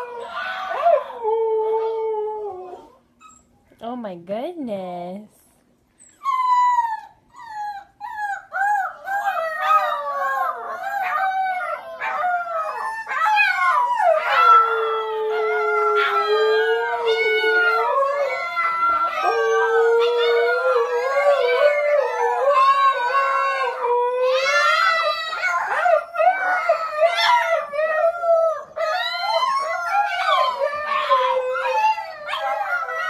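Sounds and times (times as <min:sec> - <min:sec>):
puppies yipping and whining: 0:00.0 - 0:02.0, 0:02.6 - 0:03.6, 0:06.0 - 0:33.0
puppies howling: 0:00.0 - 0:03.4, 0:06.1 - 0:33.0.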